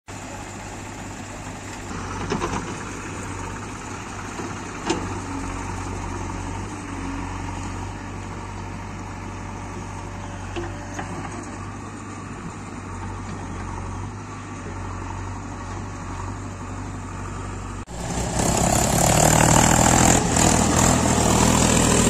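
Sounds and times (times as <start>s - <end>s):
diesel engines running: 0.1s - 22.0s.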